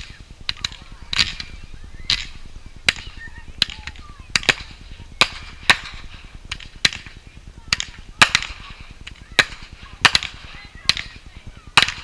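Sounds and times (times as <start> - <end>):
faint low rumble: 0.0 - 12.0
fireworks bangs: 0.0 - 12.0.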